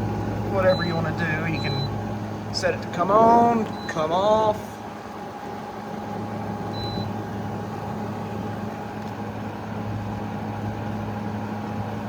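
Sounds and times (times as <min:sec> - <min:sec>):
air conditioner compressor hum: 0:00.0 - 0:12.0
fans blowing air: 0:00.0 - 0:12.0.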